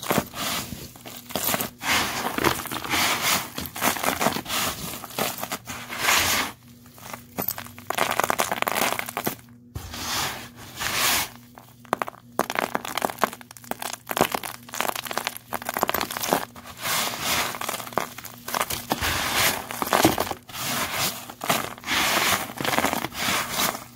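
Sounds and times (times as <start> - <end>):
debris crunching and crinkling by hand: 0.0 - 23.9.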